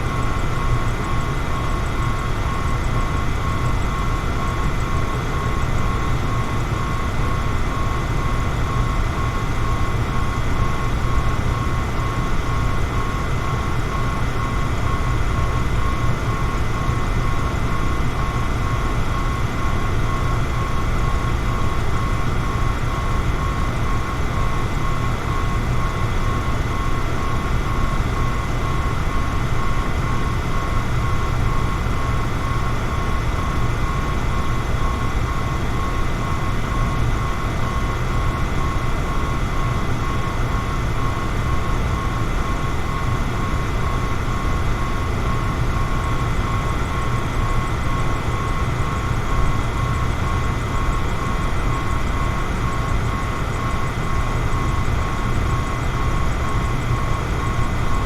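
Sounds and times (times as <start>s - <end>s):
electric fan whirring: 0.0s - 58.0s.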